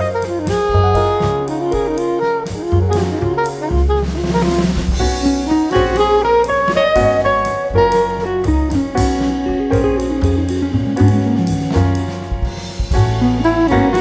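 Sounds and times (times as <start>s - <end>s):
jazz music with saxophone: 0.0s - 14.0s.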